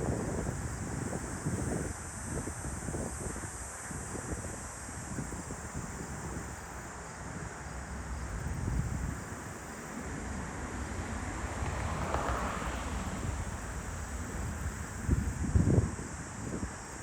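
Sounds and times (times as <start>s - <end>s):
wind buffeting microphone: 0.0s - 6.6s, 7.2s - 16.8s.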